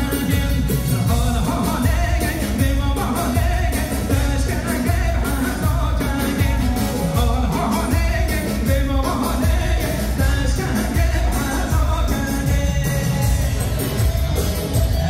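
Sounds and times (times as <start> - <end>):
live band playing dance music: 0.0 - 15.0
person singing: 0.0 - 15.0.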